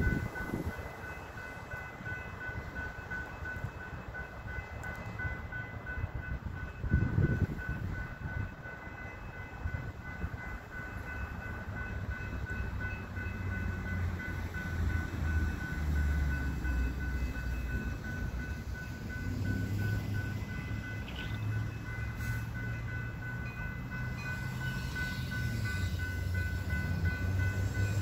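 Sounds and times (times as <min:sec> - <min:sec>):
crossing bells ringing: 0:00.0 - 0:28.0
train rumble: 0:00.0 - 0:28.0.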